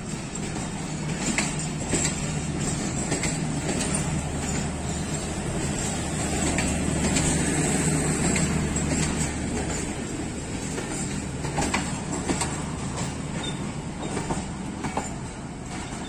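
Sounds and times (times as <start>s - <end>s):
train coaches rumbling: 0.0s - 16.0s
wheels clicking over rails: 0.0s - 16.0s.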